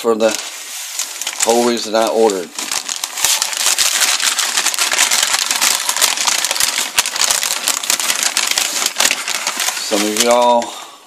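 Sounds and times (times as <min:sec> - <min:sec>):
paper crinkling and rustling: 0:00.0 - 0:10.9.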